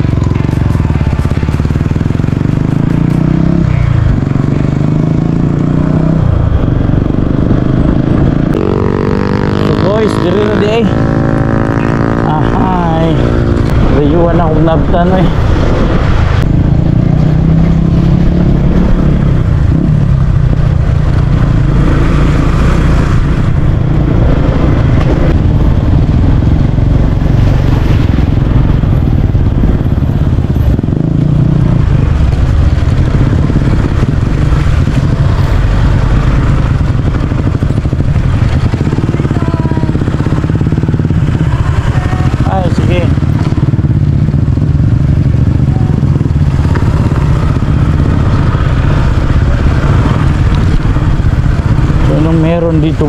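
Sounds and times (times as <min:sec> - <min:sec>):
motorcycle engine running: 0:00.0 - 0:53.0
road noise: 0:00.0 - 0:53.0.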